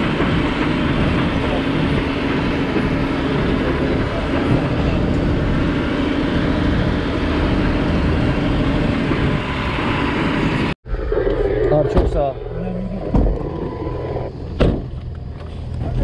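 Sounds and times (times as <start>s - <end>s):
constant hum: 0.0s - 16.0s
truck engine running: 0.0s - 16.0s.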